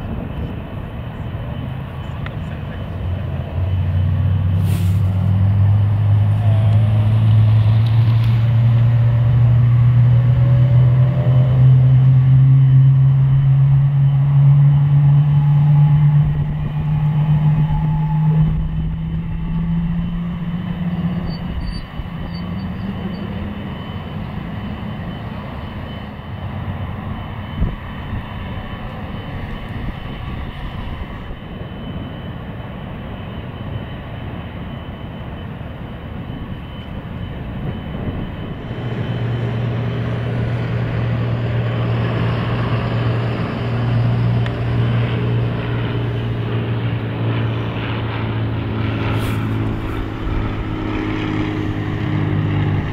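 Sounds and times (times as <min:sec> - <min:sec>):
deeper steady tone: 0:00.0 - 0:52.9
jet engine drone: 0:00.0 - 0:52.9.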